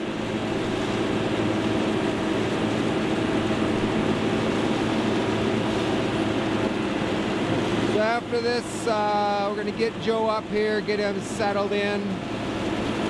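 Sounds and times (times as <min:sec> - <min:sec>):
boat engine droning: 0:00.0 - 0:13.0
rushing water noise: 0:00.0 - 0:13.0.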